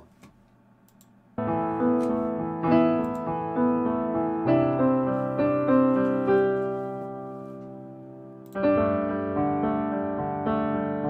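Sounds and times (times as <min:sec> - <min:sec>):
piano music: 0:01.4 - 0:11.0.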